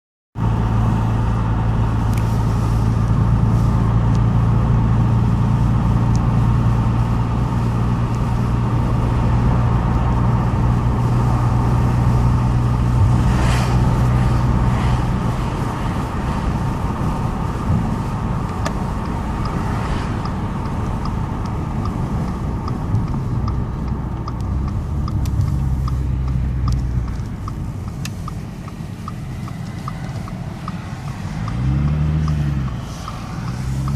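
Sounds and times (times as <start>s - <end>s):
car exhaust drone from inside cabin: 0.4s - 33.9s
light regular ticking: 5.9s - 33.9s.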